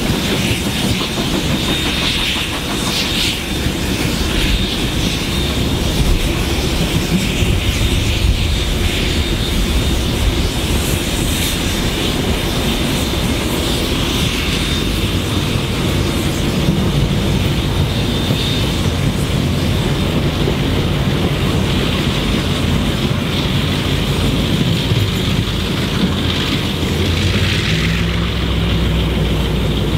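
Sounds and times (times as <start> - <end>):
diesel locomotives under power: 0.0 - 29.9
steel wheels on rails: 0.0 - 29.9.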